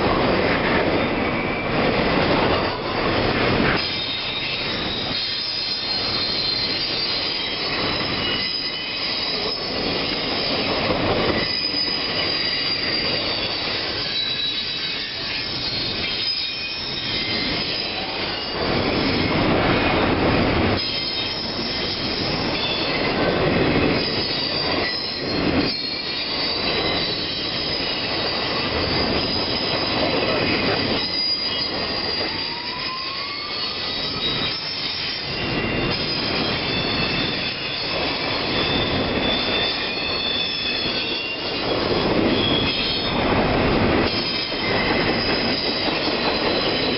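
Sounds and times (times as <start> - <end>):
train rolling rumble: 0.0 - 46.9
train wheels squealing: 0.0 - 46.9.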